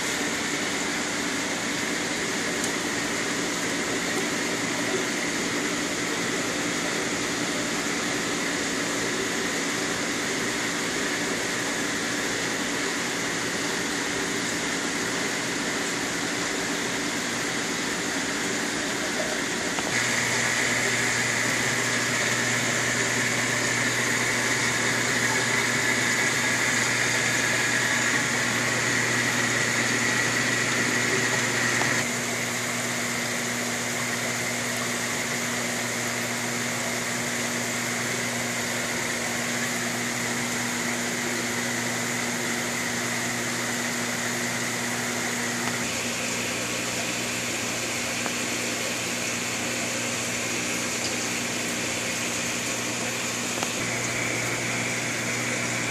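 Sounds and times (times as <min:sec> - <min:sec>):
aquarium equipment hum and hiss: 0:00.0 - 0:55.9.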